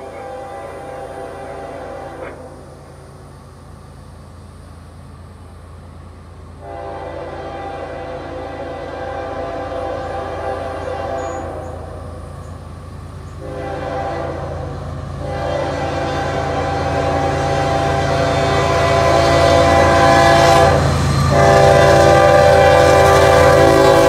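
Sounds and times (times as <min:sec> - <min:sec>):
diesel locomotive horn blasts: 0:00.0 - 0:03.0, 0:06.6 - 0:12.5, 0:13.2 - 0:24.0
low steady train rumble: 0:00.0 - 0:24.0.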